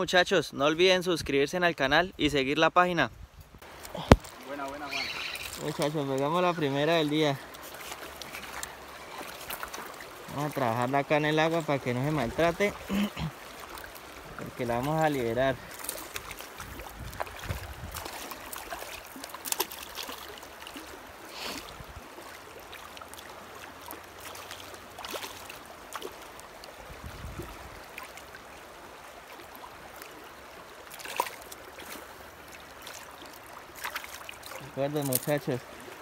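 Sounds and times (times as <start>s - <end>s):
river water running over stones: 0.0s - 36.0s.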